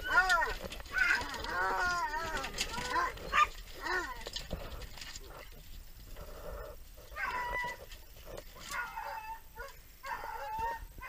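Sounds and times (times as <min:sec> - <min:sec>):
dogs whining: 0:00.0 - 0:11.0.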